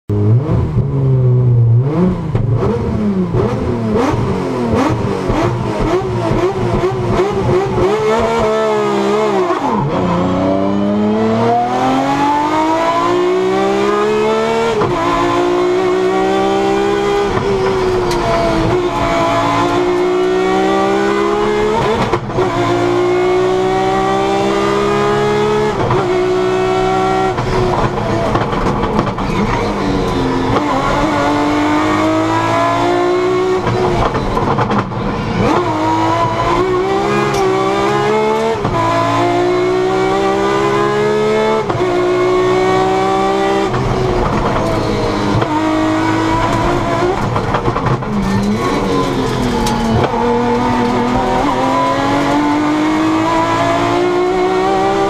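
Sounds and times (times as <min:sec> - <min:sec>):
rally car engine revving: 0:00.1 - 0:55.0.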